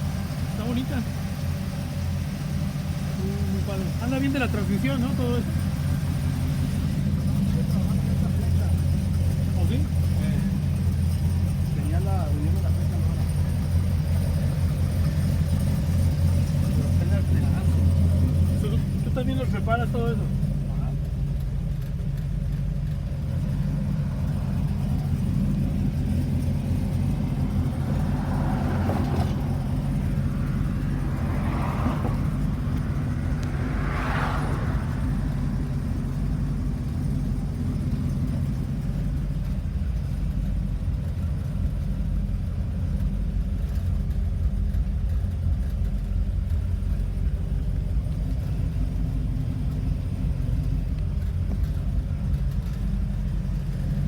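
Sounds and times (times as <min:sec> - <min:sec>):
v eight engine idling: 0:00.0 - 0:54.0.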